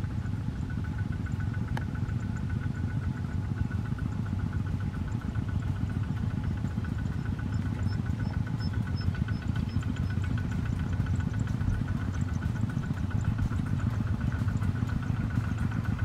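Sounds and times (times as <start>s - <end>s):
diesel tractor engines chugging: 0.0s - 16.0s.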